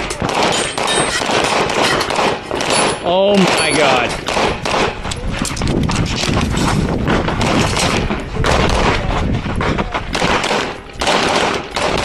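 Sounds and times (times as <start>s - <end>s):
pistol shots: 0.0s - 12.0s.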